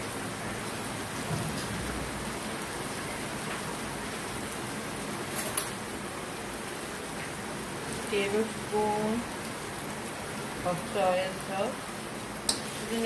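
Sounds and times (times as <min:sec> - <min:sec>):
chicken and onion sizzling in oil: 0:00.0 - 0:13.0.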